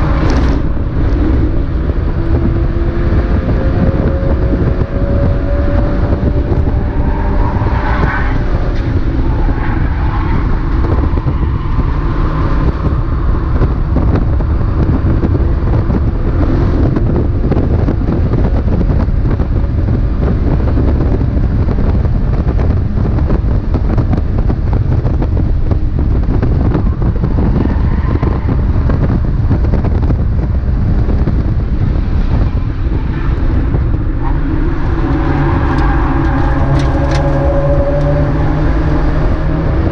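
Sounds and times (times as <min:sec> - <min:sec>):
race car engine running hard: 0:00.0 - 0:39.9
wind and road noise: 0:00.0 - 0:39.9.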